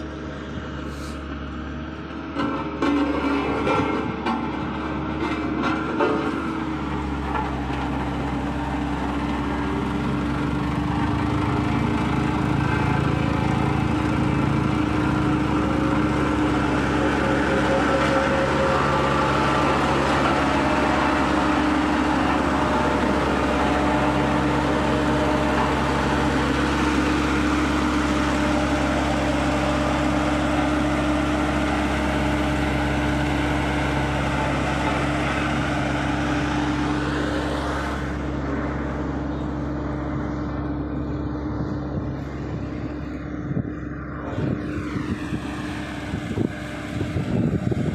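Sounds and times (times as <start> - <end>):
road roller engine running: 0.0 - 47.9.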